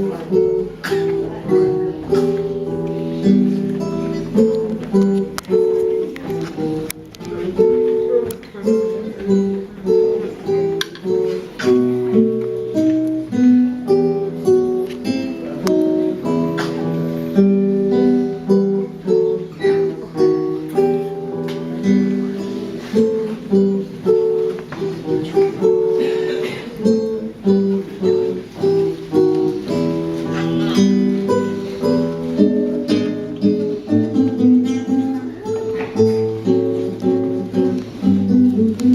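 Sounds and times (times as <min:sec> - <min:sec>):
acoustic guitar music: 0:00.0 - 0:38.9.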